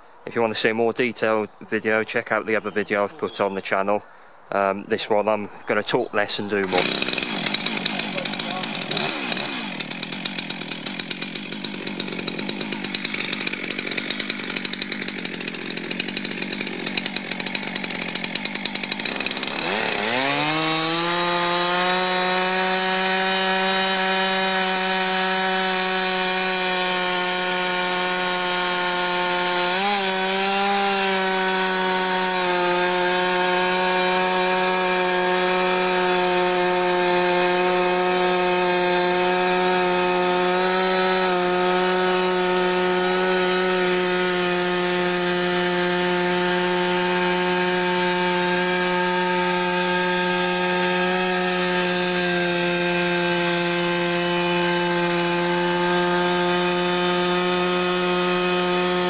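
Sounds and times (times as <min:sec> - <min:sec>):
chainsaw cutting log: 0:06.5 - 0:59.0.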